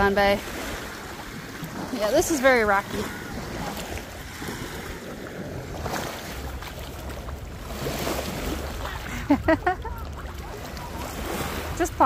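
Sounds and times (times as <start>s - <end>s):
waves lapping at shoreline: 0.0s - 12.0s.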